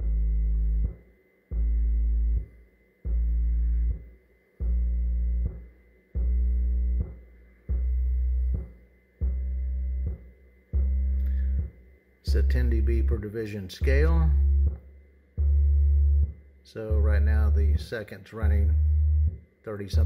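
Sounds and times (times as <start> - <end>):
low bass tone bursts: 0.0 - 20.0.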